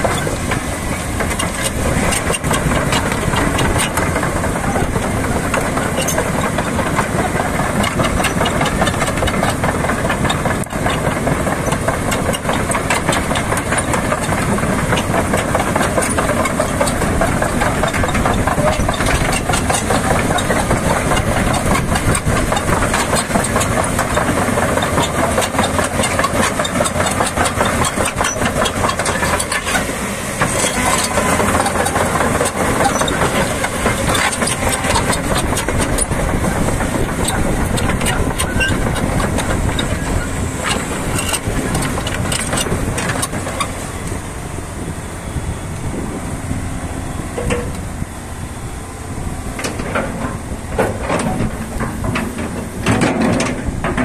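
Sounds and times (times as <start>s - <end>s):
track links clanking: 0.0s - 44.4s, 46.9s - 48.2s, 49.2s - 54.0s
excavator diesel engine: 0.0s - 54.0s.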